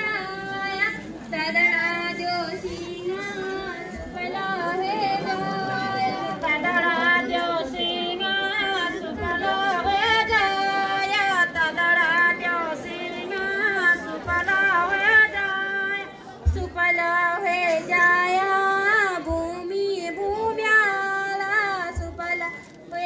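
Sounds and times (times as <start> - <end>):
women singing a folk song: 0.0 - 23.0.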